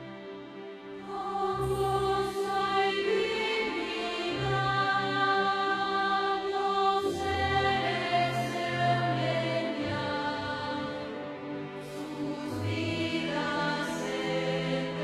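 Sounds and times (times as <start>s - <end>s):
choir singing a hymn: 0.8s - 15.0s.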